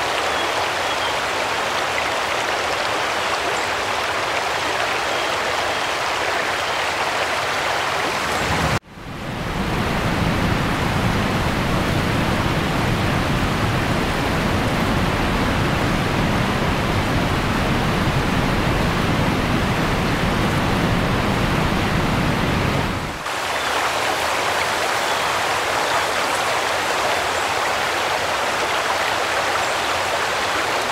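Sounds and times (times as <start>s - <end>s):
flood water rushing: 0.0s - 30.9s.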